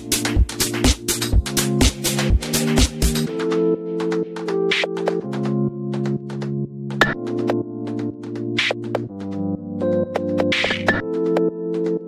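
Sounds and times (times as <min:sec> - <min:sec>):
electronic synthesizer music: 0:00.0 - 0:12.0.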